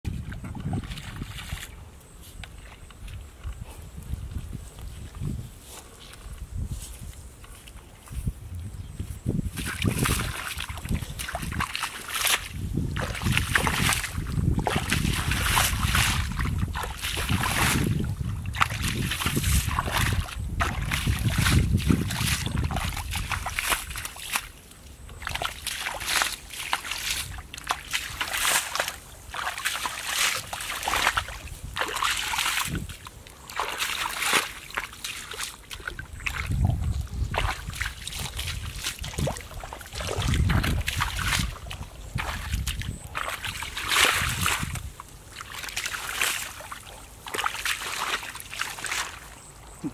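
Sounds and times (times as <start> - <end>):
bare feet squelching through mud: 0.1 - 49.9.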